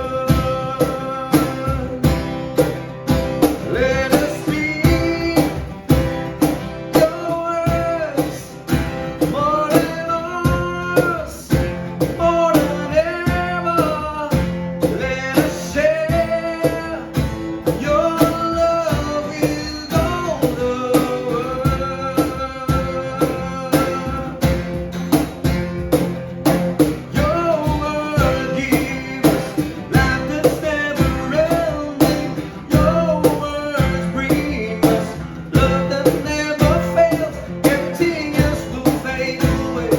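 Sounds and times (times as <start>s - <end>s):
person singing: 0.0s - 2.7s, 3.4s - 24.9s, 26.8s - 39.9s
drum beat: 0.0s - 39.9s
guitar: 0.0s - 39.9s.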